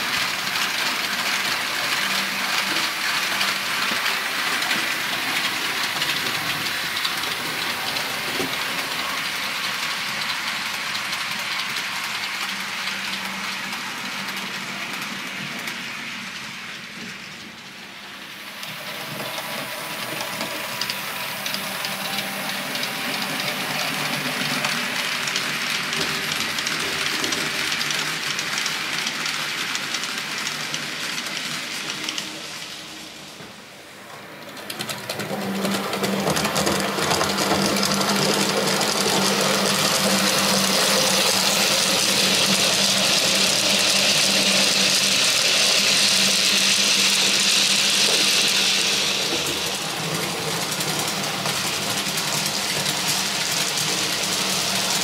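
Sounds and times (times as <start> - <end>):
model train motor whirring: 0.0 - 17.0, 18.5 - 33.4, 34.4 - 55.0
wheels on rails: 0.0 - 55.0.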